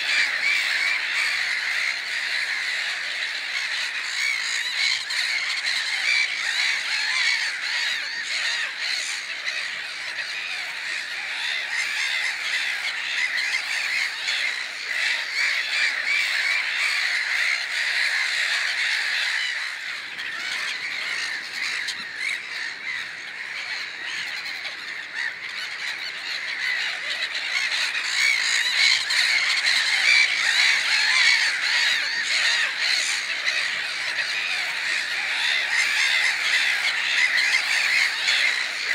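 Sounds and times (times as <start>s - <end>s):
flock of birds calling: 0.0s - 38.9s.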